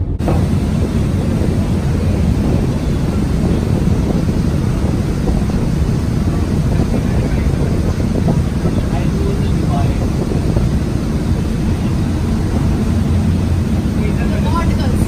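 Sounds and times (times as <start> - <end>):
water rushing around hull: 0.0 - 15.0
wind buffeting microphone: 0.0 - 15.0.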